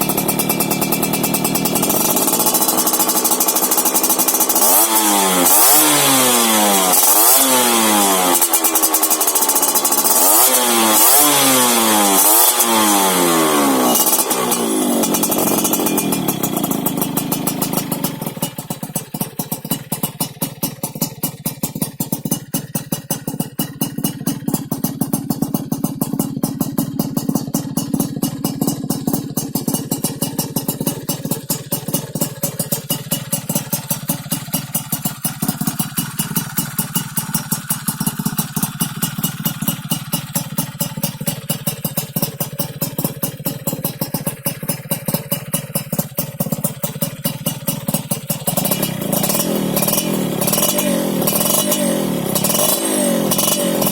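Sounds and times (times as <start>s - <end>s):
engine idling with popping: 0.0s - 53.9s
two-stroke engine revving: 0.0s - 53.9s.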